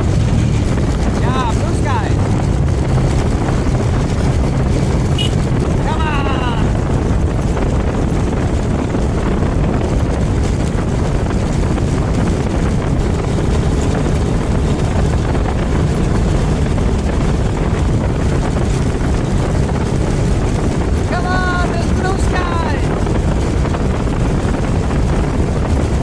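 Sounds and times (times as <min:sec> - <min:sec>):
motorcycle engine running: 0:00.0 - 0:26.0
wind rushing: 0:00.0 - 0:26.0.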